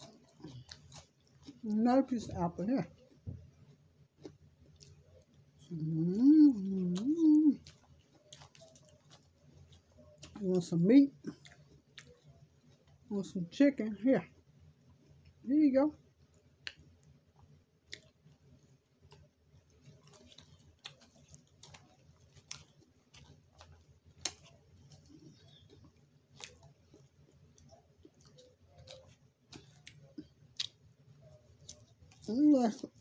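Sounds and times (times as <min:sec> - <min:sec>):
chewing food: 0:00.0 - 0:13.4, 0:16.0 - 0:33.0.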